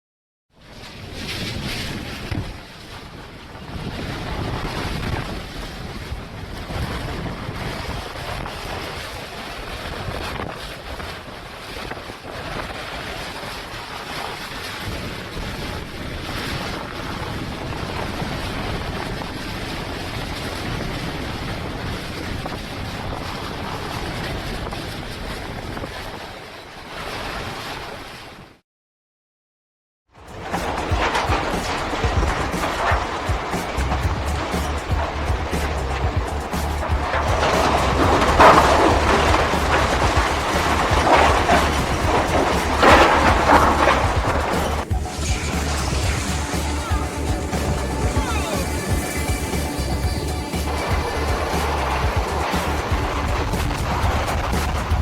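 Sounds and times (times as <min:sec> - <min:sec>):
strong wind: 0:00.6 - 0:28.6, 0:30.2 - 0:55.0
waves breaking: 0:00.7 - 0:28.4, 0:30.2 - 0:55.0
wind buffeting microphone: 0:00.9 - 0:26.4, 0:30.3 - 0:55.0.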